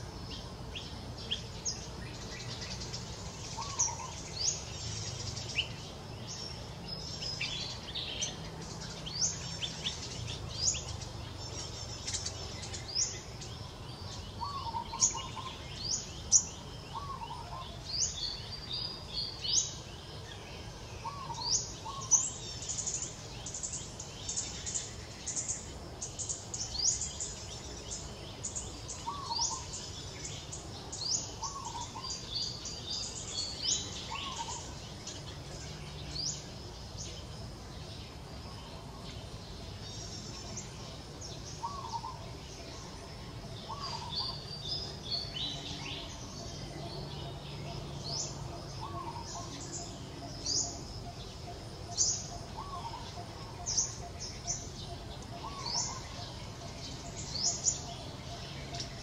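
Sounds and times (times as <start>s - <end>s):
birds chirping: 0.0s - 59.0s
low background noise: 0.0s - 59.0s.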